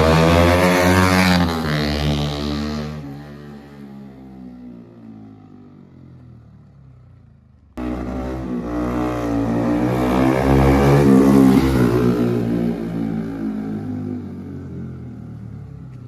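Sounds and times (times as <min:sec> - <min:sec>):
motorcycle engine revving by: 0:00.0 - 0:05.5, 0:06.7 - 0:16.0.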